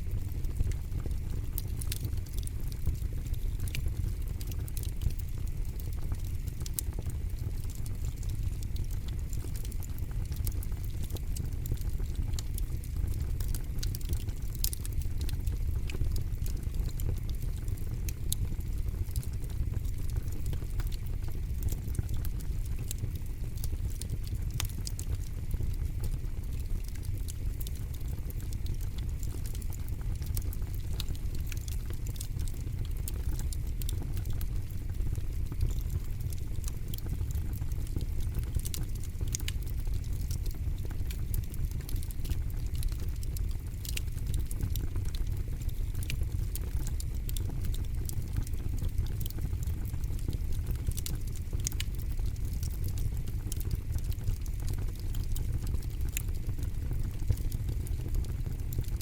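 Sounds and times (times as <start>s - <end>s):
low steady rumble: 0.0s - 59.0s
campfire crackling: 0.1s - 59.0s.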